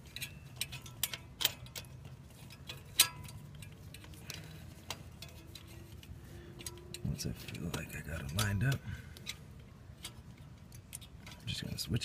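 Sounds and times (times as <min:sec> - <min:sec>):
ratchet clicks and metal taps: 0:00.0 - 0:11.9.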